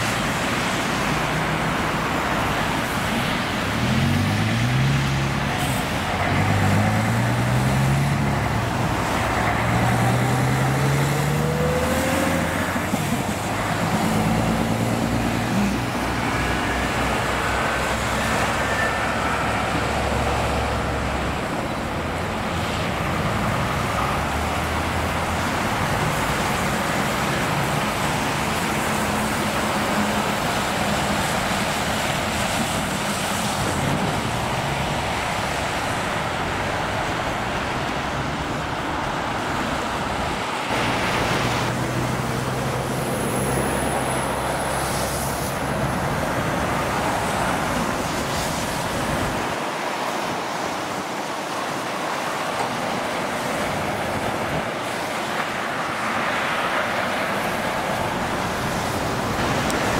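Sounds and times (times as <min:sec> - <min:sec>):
truck engine drone passing: 0:00.0 - 0:49.6
motorway traffic: 0:00.0 - 0:59.9.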